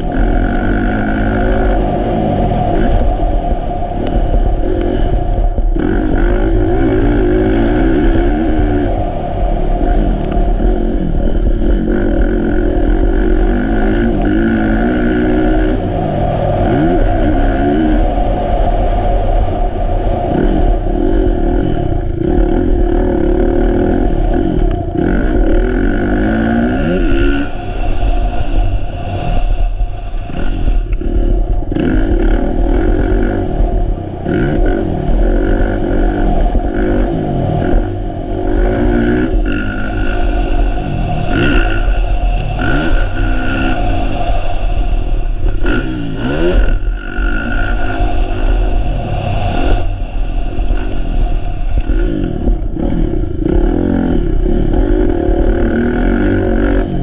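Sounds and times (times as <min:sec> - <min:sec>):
motocross bike engine revving: 0:00.0 - 0:03.1, 0:04.4 - 0:09.1, 0:09.8 - 0:18.2, 0:20.3 - 0:27.9, 0:30.3 - 0:33.6, 0:34.2 - 0:44.2, 0:45.4 - 0:48.8, 0:51.8 - 0:57.0.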